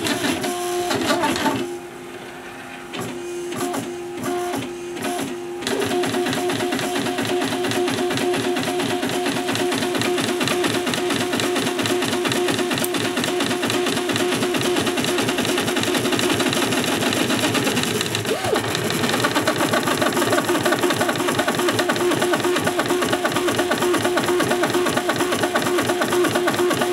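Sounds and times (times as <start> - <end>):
printer stepper motors whining: 0.0 - 26.9.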